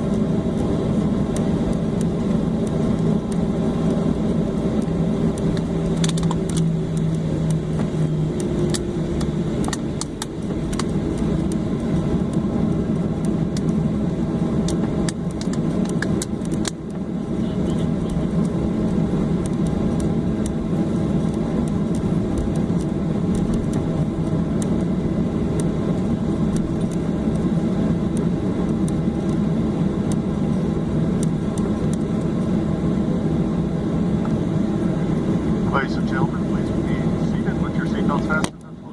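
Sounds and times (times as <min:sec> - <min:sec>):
aircraft cabin rumble: 0:00.0 - 0:38.9
low hum: 0:00.0 - 0:38.9.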